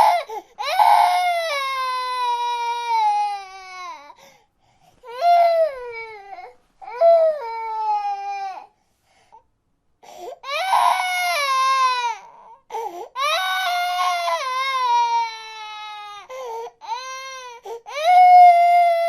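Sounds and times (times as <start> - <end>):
baby crying: 0.0 - 4.2, 5.0 - 8.7, 10.4 - 19.0.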